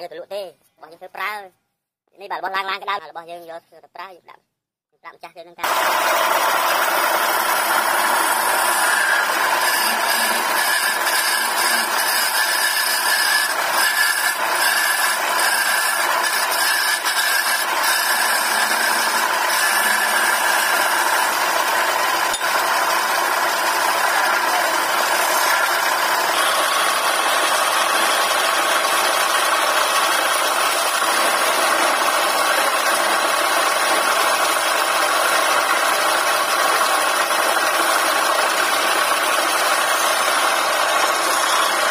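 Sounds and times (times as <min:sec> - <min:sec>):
gouge scraping spinning wood: 0:05.6 - 0:41.9
lathe running: 0:05.6 - 0:41.9.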